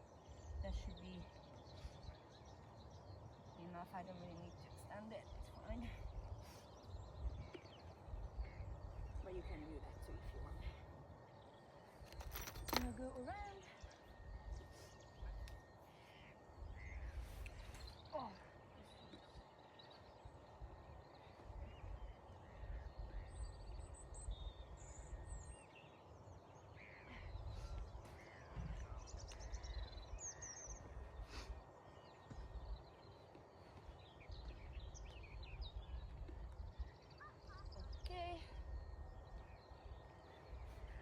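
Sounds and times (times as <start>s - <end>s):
bird chirps and calls: 0.0s - 41.0s.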